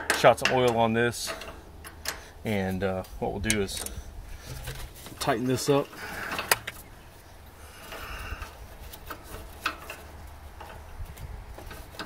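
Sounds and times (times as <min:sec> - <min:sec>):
threads and chain rubbing: 0:01.3 - 0:12.0.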